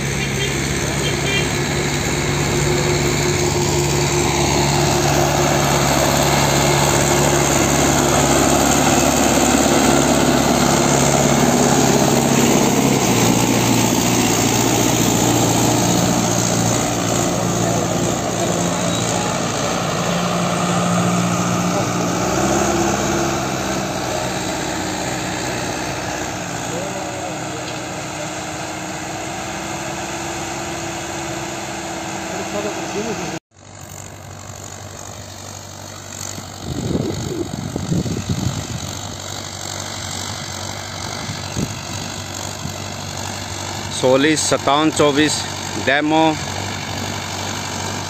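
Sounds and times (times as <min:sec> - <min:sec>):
harrow churning soil: 0:00.0 - 0:48.0
tractor engine under load: 0:00.0 - 0:48.0.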